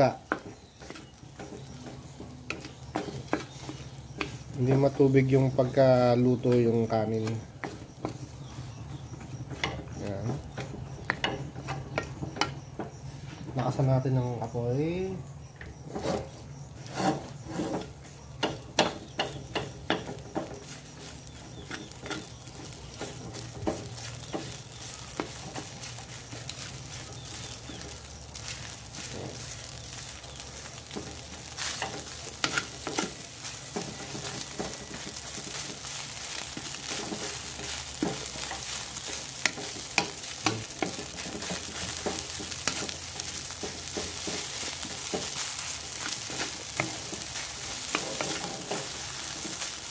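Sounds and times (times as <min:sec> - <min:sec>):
spatula knocking and scraping wok: 0:00.0 - 0:14.6, 0:15.2 - 0:49.9
rice sizzling in wok: 0:00.0 - 0:49.9.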